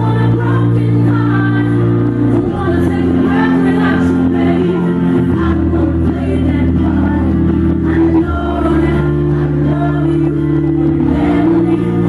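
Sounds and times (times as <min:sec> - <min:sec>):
slow ballad with singing: 0:00.0 - 0:12.0.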